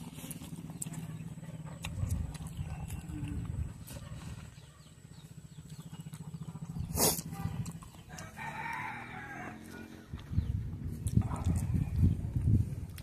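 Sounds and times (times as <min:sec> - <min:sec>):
chewing and lip-smacking: 0:00.0 - 0:13.0
low steady rumble: 0:00.0 - 0:13.0.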